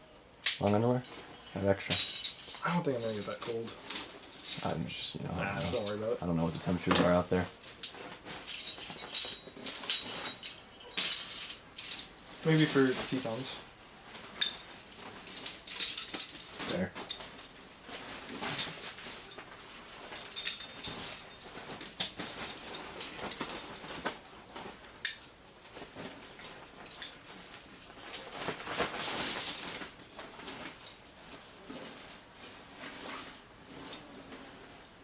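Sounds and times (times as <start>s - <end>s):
gear rustling: 0.4s - 35.0s.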